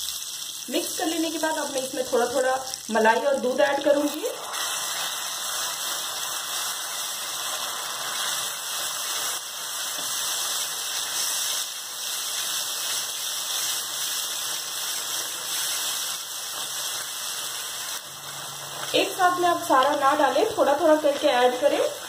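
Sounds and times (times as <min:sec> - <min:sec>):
caramel sizzling and bubbling: 0:00.0 - 0:22.0.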